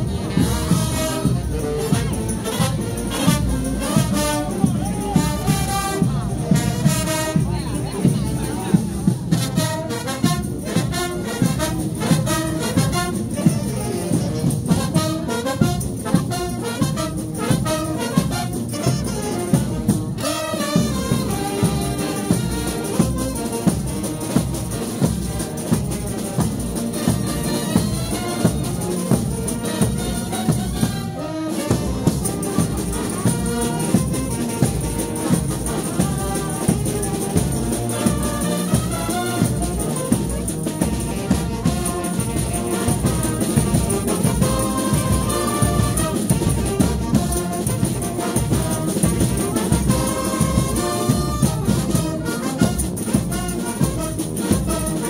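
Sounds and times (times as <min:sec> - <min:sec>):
fast steady drumbeat: 0:00.0 - 0:55.0
trumpets and trombones: 0:00.0 - 0:55.0.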